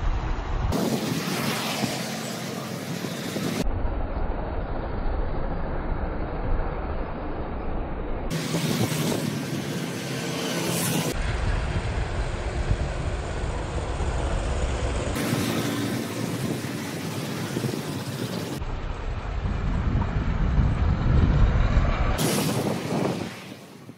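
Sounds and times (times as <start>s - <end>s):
vehicle engine rumble: 0.0s - 23.8s
road traffic: 0.0s - 23.9s.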